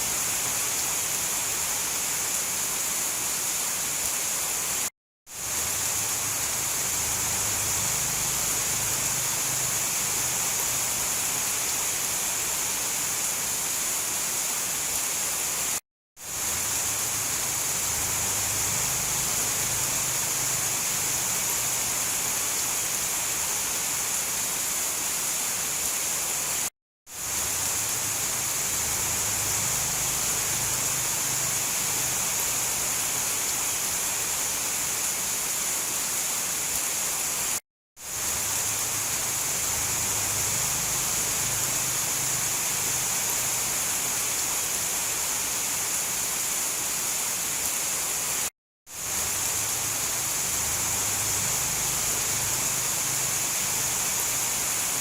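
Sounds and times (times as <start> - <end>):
dense rain hiss: 0.0 - 55.0.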